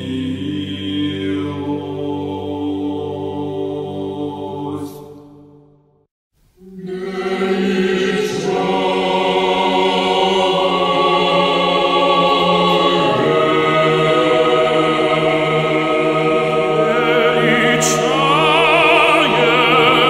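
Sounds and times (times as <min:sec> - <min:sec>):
choir singing a slow chant: 0:00.0 - 0:05.7, 0:06.6 - 0:20.0.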